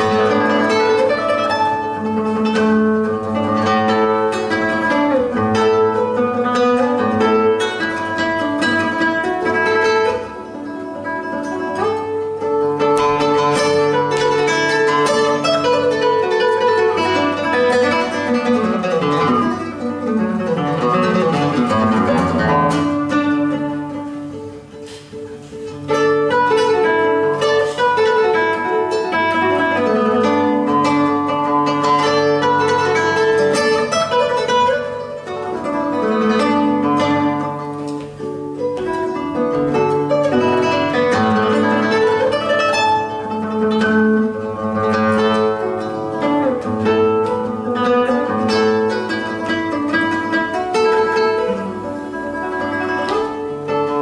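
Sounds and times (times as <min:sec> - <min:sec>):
fingerpicked classical guitar: 0:00.0 - 0:54.0.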